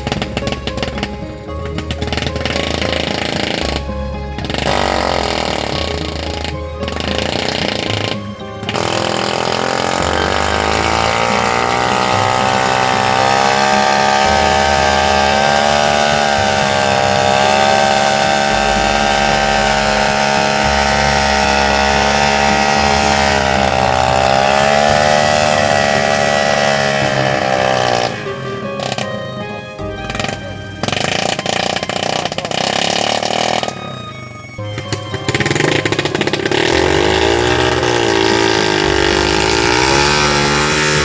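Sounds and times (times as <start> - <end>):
motorcycle engine winch under load: 0.0 - 41.0.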